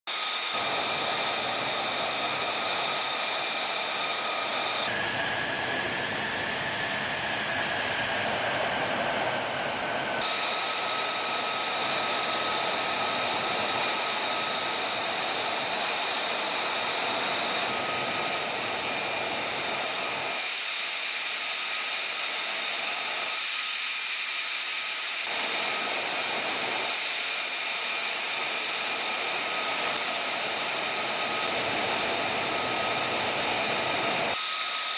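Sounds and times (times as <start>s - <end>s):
high turbine whine: 0.1s - 24.0s, 24.6s - 34.9s
jet engine running: 0.1s - 34.9s.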